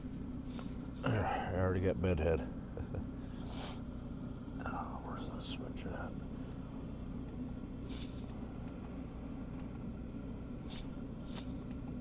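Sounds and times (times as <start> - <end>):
air heater droning: 0.0 - 12.0.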